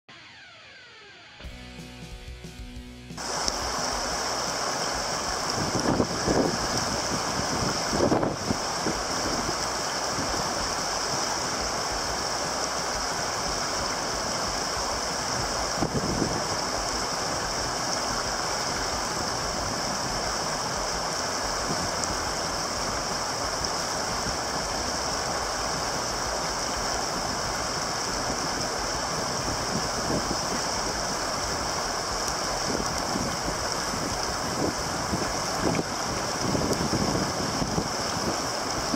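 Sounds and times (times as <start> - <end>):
whitewater rapids rushing: 3.2 - 38.9.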